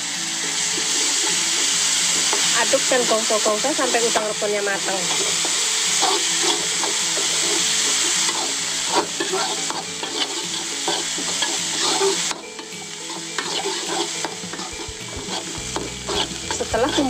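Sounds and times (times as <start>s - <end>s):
paste and shrimp sizzling in oil: 0.0s - 17.0s
metal spatula scraping a wok: 0.7s - 17.0s.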